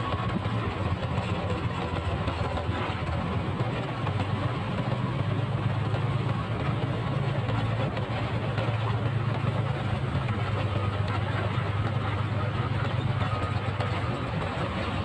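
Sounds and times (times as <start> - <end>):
motorcycle engine running: 0.0 - 15.0
steady rushing noise: 0.0 - 15.0.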